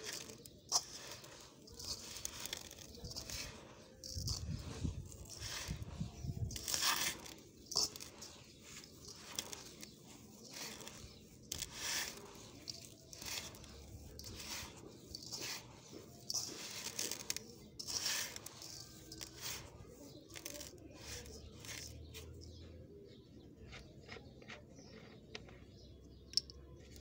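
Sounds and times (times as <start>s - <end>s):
hand digging in sand: 0.0s - 22.6s.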